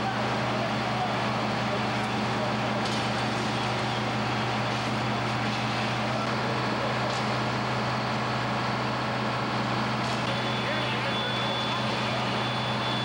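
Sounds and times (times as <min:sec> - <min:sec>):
fire engines running: 0:00.0 - 0:13.0.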